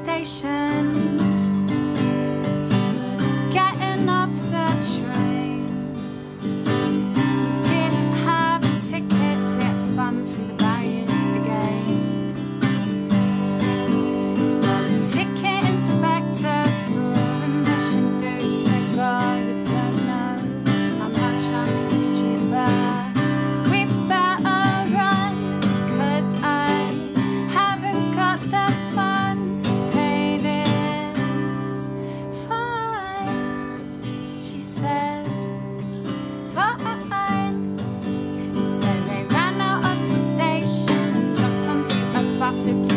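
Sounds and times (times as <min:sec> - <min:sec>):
woman singing: 0:00.0 - 0:13.2, 0:13.9 - 0:42.9
acoustic guitar strumming: 0:00.0 - 0:42.9.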